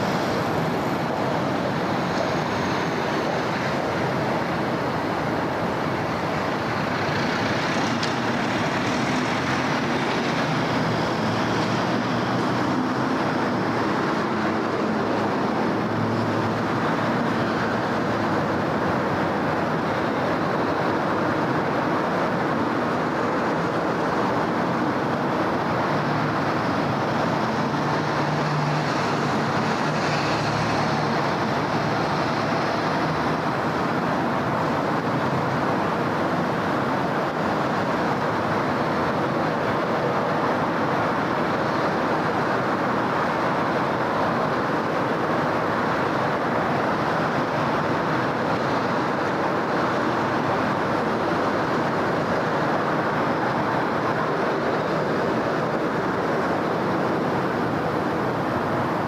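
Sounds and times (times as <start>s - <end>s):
passing cars: 0.0s - 59.0s.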